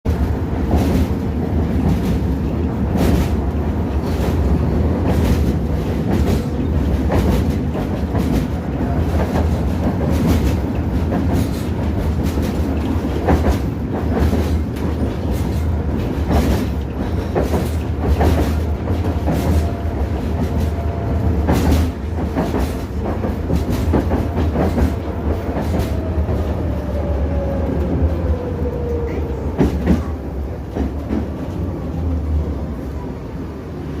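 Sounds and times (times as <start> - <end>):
low rumble of tram: 0.1 - 34.0.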